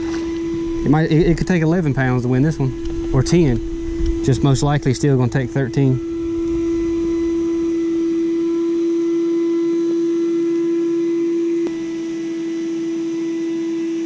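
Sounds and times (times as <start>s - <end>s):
trolling motor electric whine: 0.0s - 14.0s.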